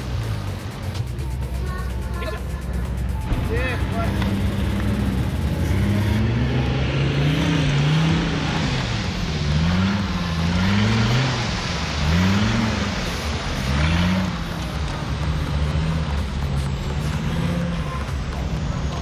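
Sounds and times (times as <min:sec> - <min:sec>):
engine revving: 0:00.0 - 0:19.0
rushing noise: 0:00.0 - 0:19.0.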